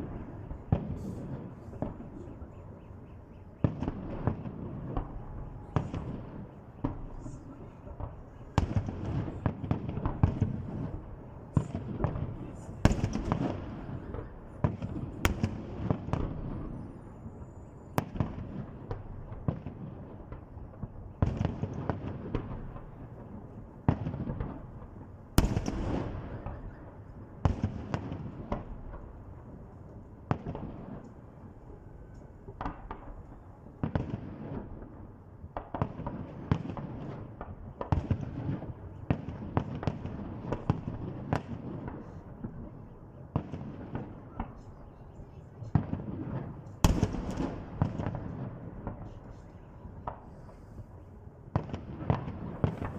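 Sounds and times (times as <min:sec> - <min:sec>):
fireworks bangs: 0:00.0 - 0:02.8, 0:03.6 - 0:17.2, 0:18.0 - 0:29.4, 0:32.5 - 0:44.8, 0:45.6 - 0:52.9.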